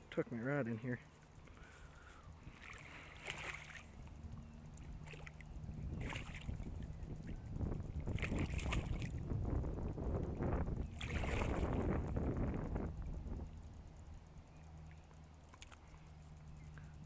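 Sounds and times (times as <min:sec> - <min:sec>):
low wind rumble on microphone: 0:01.6 - 0:17.0.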